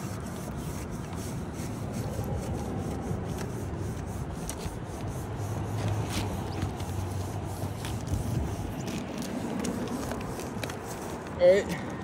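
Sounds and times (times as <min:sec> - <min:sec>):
brush scrubbing glass: 0:00.0 - 0:12.0.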